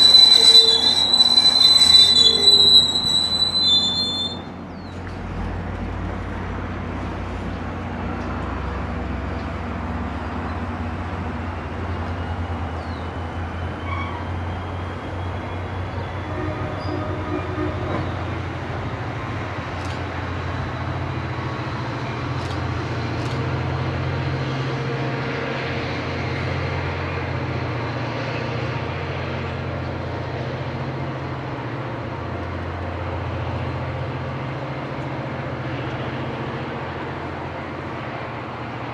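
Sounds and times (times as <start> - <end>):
diesel locomotive engine rumble: 0.0 - 38.9.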